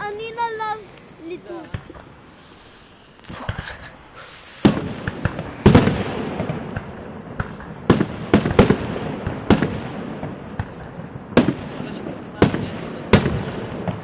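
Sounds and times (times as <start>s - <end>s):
fireworks bangs: 0.0s - 14.0s
fireworks crackles: 0.0s - 14.0s.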